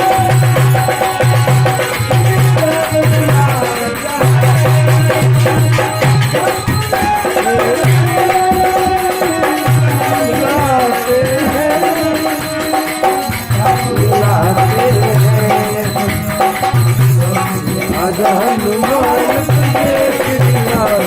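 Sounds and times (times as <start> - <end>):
hand drumming in repeated rhythm: 0.0 - 21.0
sliding melody line: 0.0 - 21.0.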